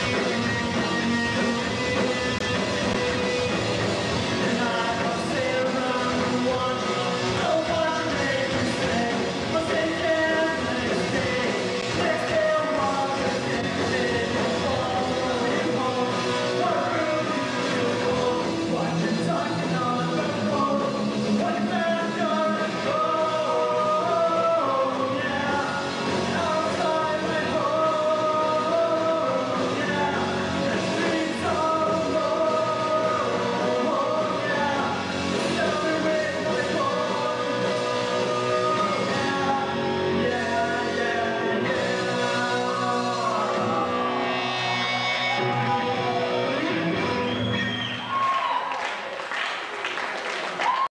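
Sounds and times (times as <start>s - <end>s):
lead vocal singing: 0.0s - 48.6s
punk band playing live: 0.0s - 48.6s.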